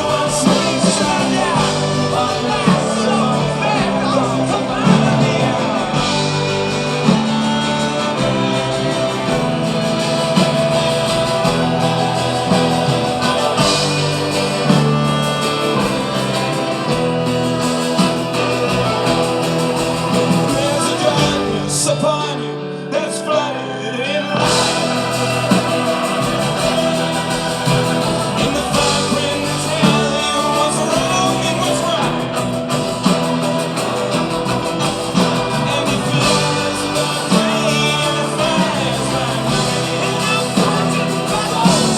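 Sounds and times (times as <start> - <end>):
band playing a song: 0.0 - 41.9
person singing: 0.0 - 41.9.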